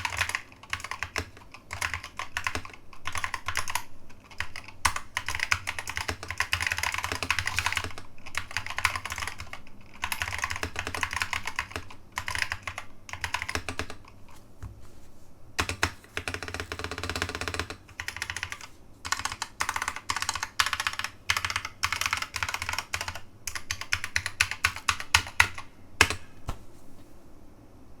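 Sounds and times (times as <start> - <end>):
clicky mechanical keyboard typing: 0.0 - 14.3, 15.6 - 26.3.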